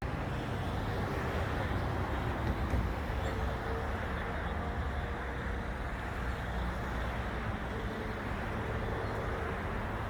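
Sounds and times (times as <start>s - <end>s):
engine and traffic rumble: 0.0s - 10.0s.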